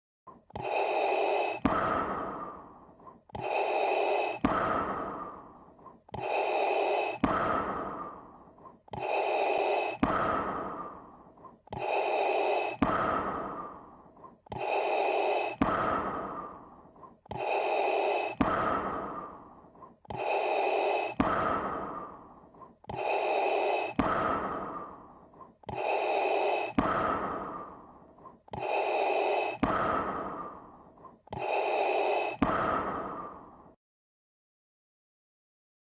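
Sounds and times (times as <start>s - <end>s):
mechanical respirator breathing: 0.3s - 33.8s.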